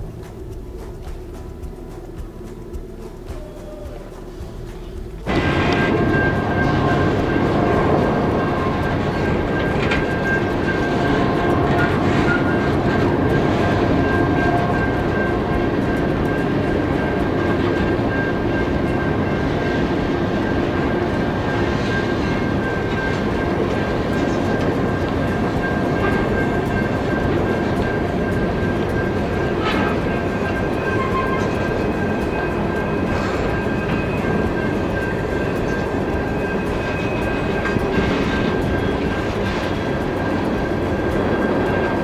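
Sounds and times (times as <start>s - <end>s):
freight train wheels rumbling on rails: 0.0s - 42.0s
high-pitched whine: 0.0s - 42.0s.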